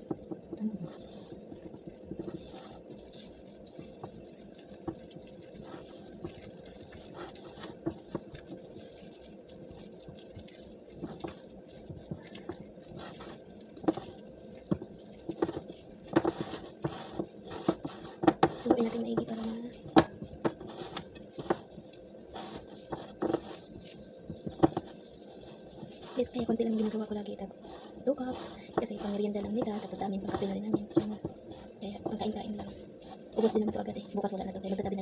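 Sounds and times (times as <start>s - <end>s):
dough mixed by hand in bowl: 0.0s - 35.0s.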